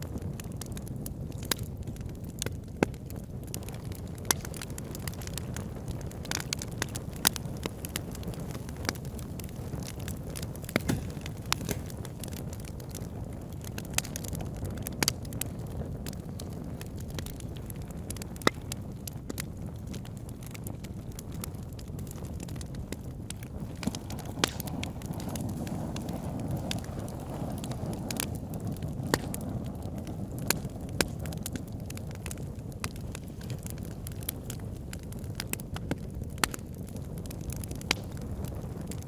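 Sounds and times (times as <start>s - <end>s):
low rumble of flames: 0.0s - 39.0s
wood fire crackling and popping: 0.0s - 39.0s.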